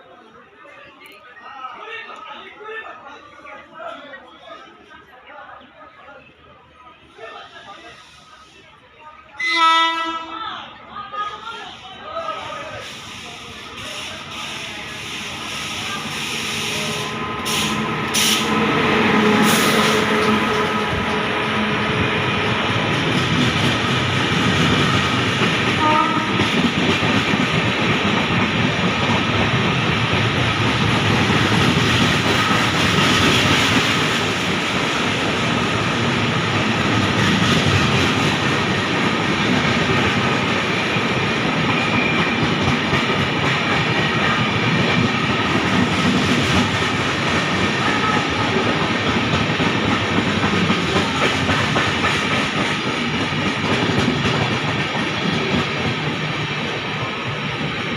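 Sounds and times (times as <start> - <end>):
passenger train running past: 0.0 - 57.9.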